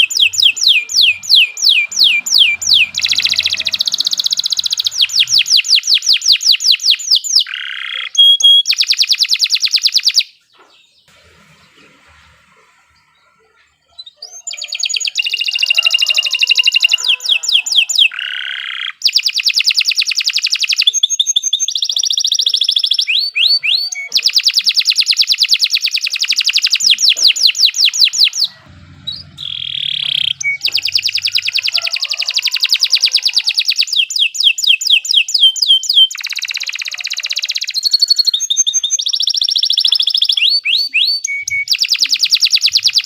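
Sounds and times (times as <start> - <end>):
canary singing trills: 0.0 - 43.0.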